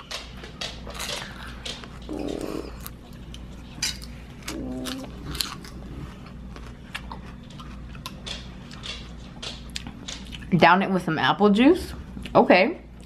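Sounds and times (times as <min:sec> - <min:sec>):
child chewing lettuce: 0:00.0 - 0:10.6.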